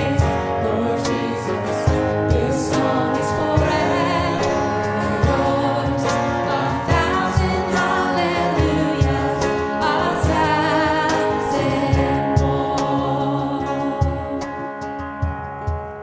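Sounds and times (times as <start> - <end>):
worship band with singing: 0.0 - 15.8
steady drum beat: 0.0 - 16.0.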